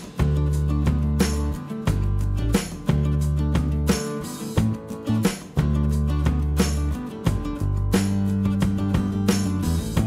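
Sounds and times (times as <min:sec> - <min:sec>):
steady drum beat: 0:00.0 - 0:10.0
held bass notes: 0:00.2 - 0:04.0, 0:04.6 - 0:10.0.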